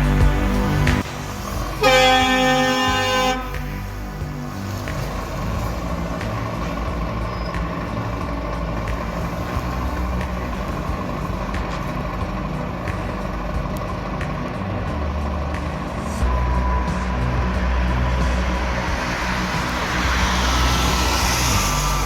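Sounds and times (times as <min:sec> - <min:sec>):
diesel engine low rumble: 0:00.0 - 0:22.0.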